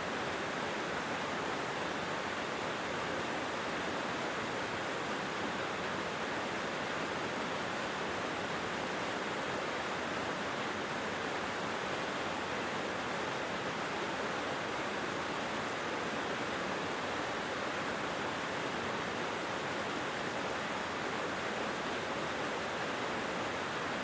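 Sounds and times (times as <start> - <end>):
mountain stream flowing: 0.0 - 24.0.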